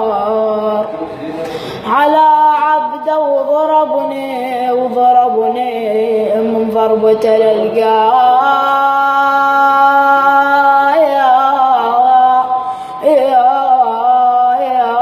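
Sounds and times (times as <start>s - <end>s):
person chanting into a microphone: 0.0s - 15.0s.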